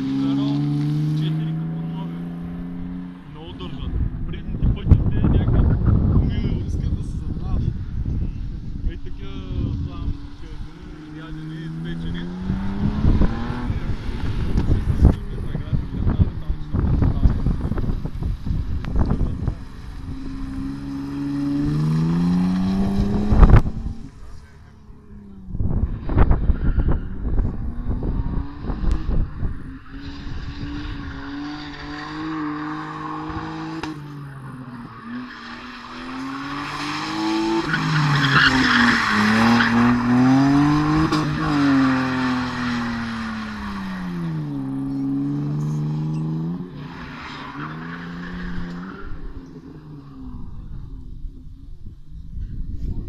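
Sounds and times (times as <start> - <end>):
tyres skidding: 0.0 - 51.1
car engine revving: 0.0 - 52.0.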